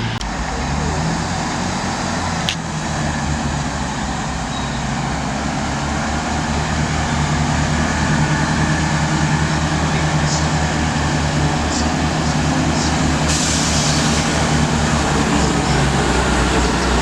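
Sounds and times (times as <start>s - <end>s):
train engine humming: 0.0s - 17.0s.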